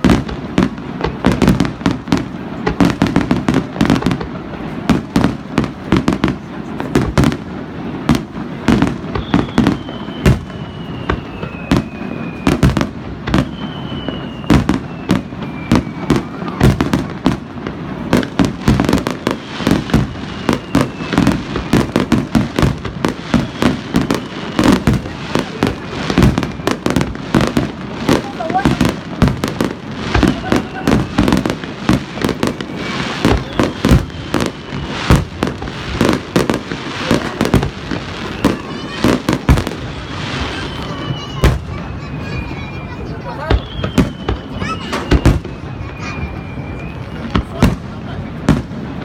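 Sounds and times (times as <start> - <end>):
falling firework whistles: 0.0 - 49.0
fireworks bursts and bangs: 0.0 - 49.0.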